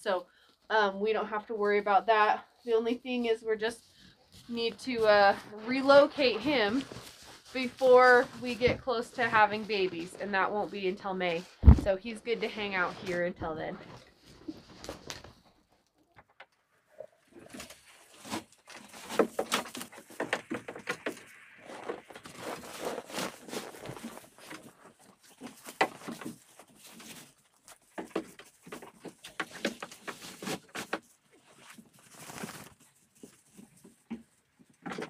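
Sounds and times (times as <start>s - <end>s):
goats pulling rustling hay: 1.6s - 15.3s, 17.3s - 34.8s.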